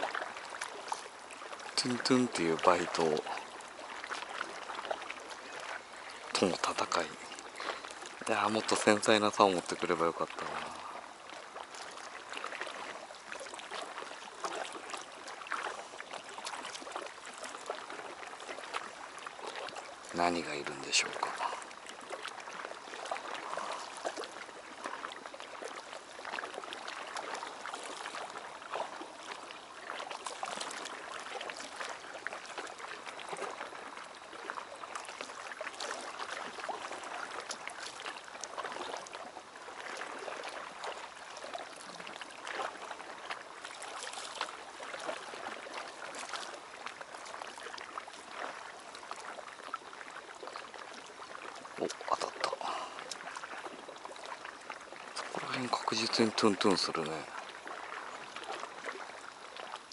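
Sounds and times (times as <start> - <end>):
waves lapping against a wall: 0.0 - 59.9.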